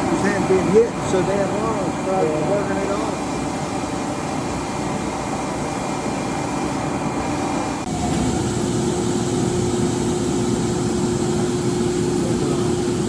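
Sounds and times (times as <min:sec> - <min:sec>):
lathe mechanical drone: 0:00.0 - 0:13.0
steady low hum: 0:00.0 - 0:13.0.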